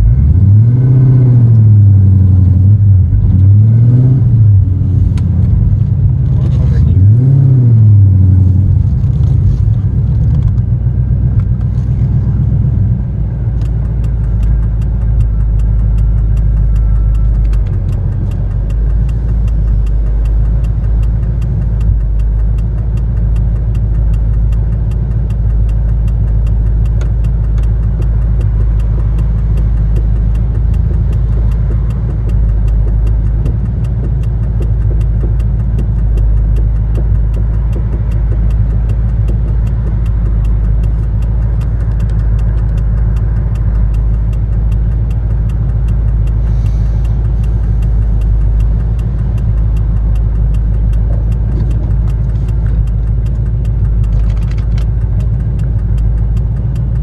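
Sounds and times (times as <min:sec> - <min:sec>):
car engine idling: 0:00.0 - 0:57.0
faint regular ticking: 0:00.0 - 0:57.0.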